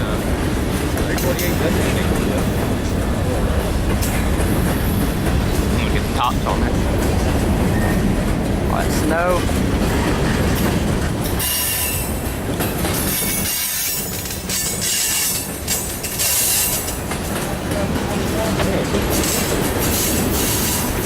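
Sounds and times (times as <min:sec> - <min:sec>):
train wheels clicking over rail joints: 0:00.0 - 0:21.0.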